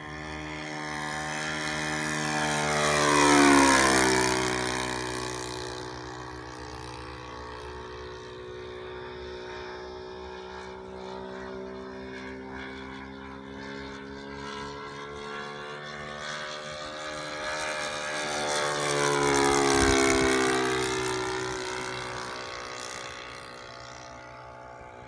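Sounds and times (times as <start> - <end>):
model plane engine flyby: 0.0 - 25.0.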